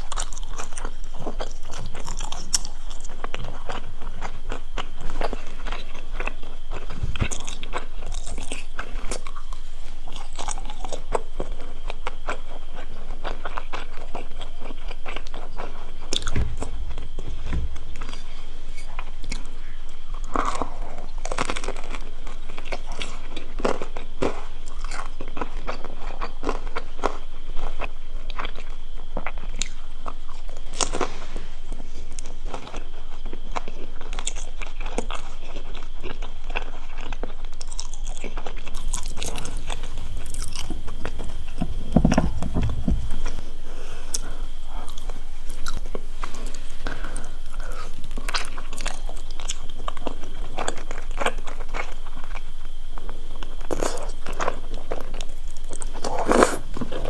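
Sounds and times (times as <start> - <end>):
crunching bites of crisp food: 0.0 - 57.0
wet chewing: 0.0 - 57.0.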